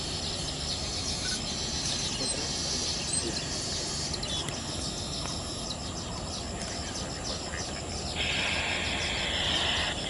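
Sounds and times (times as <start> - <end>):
rapid high chirping: 0.0 - 10.0.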